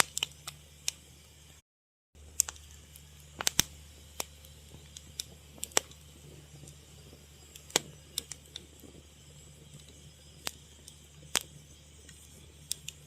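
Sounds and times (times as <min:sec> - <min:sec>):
fire crackling and popping: 0:00.0 - 0:01.6, 0:02.2 - 0:13.0
steady low background: 0:02.2 - 0:13.0.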